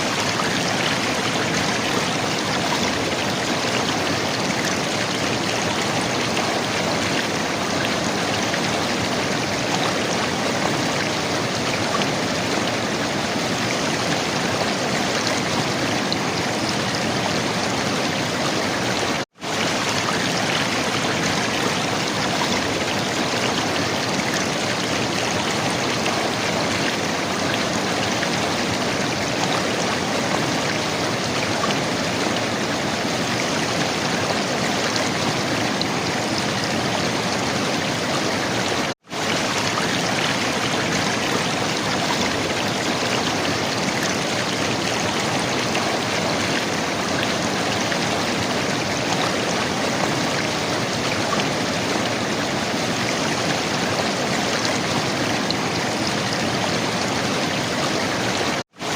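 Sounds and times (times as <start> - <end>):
river water flowing: 0.0 - 58.9.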